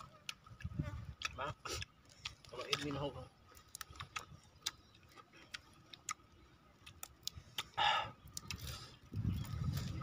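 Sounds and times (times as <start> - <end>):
roasted meat crackling when torn: 0.0 - 10.0.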